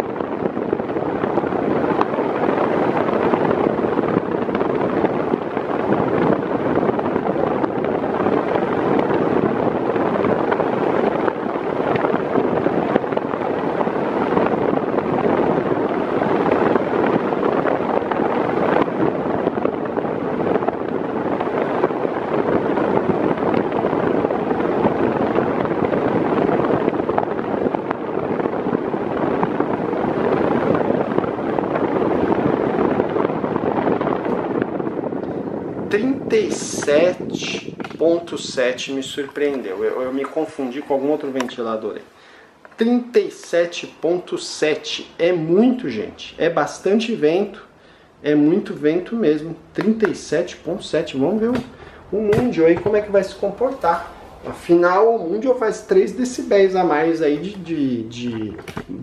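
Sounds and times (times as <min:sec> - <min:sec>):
electric fan rushing air: 0:00.0 - 0:59.0.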